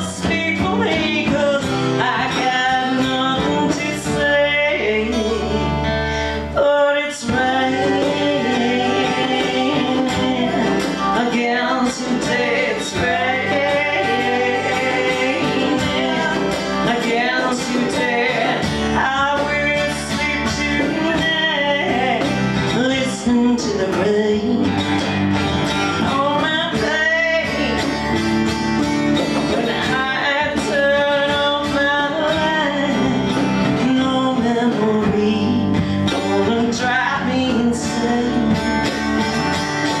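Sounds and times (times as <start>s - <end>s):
woman singing: 0.0s - 25.2s, 25.9s - 28.1s, 29.2s - 40.0s
strummed guitars: 0.0s - 40.0s.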